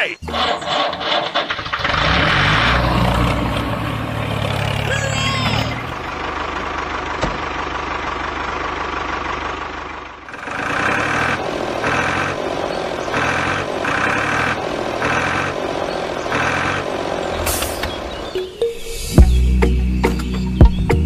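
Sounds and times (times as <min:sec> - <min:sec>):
tractor engine running: 0:00.0 - 0:18.6
pulsing engine: 0:00.2 - 0:18.6.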